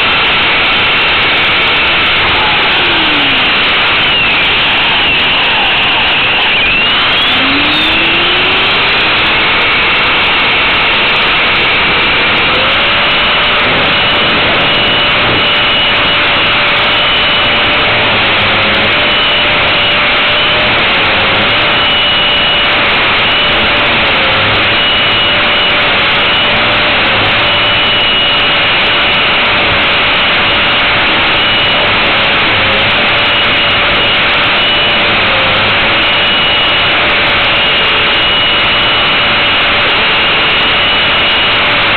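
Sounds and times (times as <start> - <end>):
constant rushing noise: 0.0 - 41.9
rc helicopter motor and rotor whine: 0.0 - 41.9.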